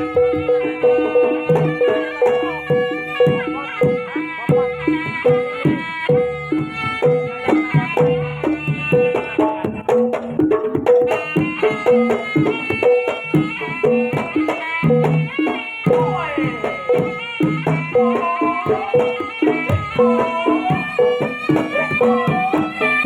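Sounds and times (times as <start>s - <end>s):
gong-chime percussion: 0.0s - 23.0s
hand drums: 0.0s - 23.0s.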